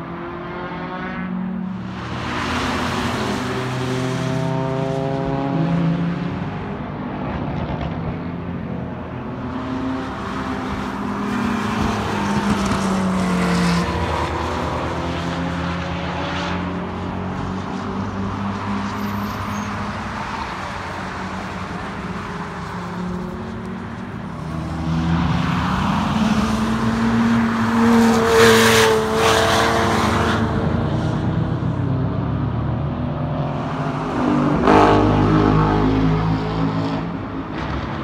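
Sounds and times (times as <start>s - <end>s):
race car engines: 0.0s - 38.0s.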